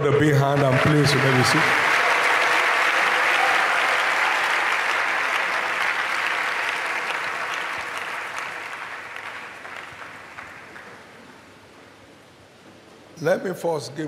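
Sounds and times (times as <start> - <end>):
crowd applauding: 0.0 - 11.4.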